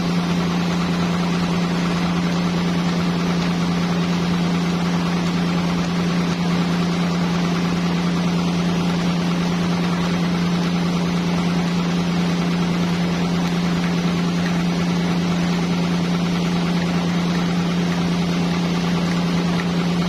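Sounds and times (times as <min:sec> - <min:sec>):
sawmill machine hum: 0:00.0 - 0:20.0.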